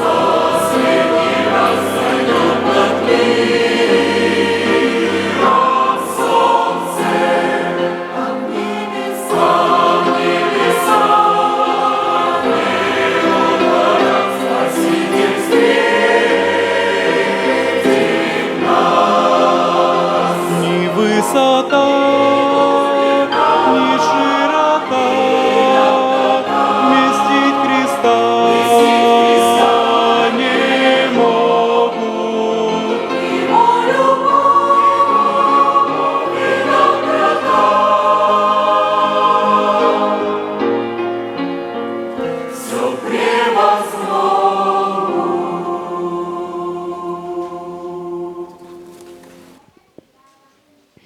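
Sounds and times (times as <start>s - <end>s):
choir singing a hymn: 0.0s - 49.7s.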